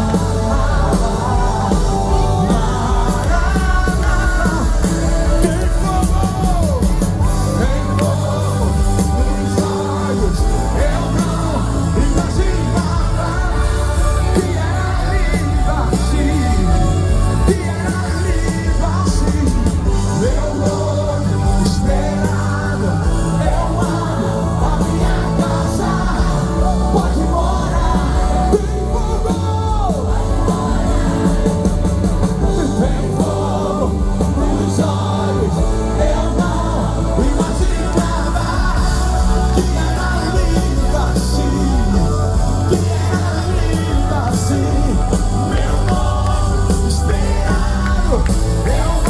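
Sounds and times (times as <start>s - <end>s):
drums: 0.0s - 49.0s
gospel band playing: 0.0s - 49.0s
lead singer singing: 0.0s - 49.0s
loud bass: 0.0s - 49.0s.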